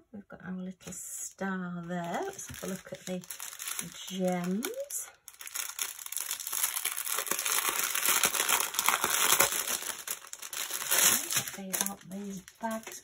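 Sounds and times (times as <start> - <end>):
plastic bags crinkling: 1.8 - 13.0.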